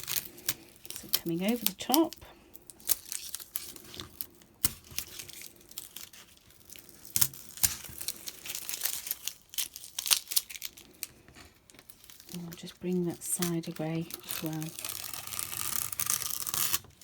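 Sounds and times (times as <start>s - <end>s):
tape peeling off paper: 0.0s - 11.1s, 13.2s - 17.0s.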